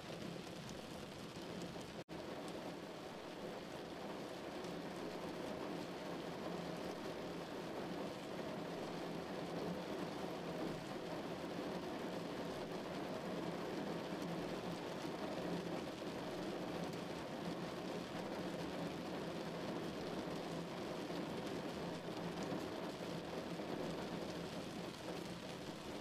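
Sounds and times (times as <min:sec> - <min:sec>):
rain on car windshield: 0:00.0 - 0:26.0.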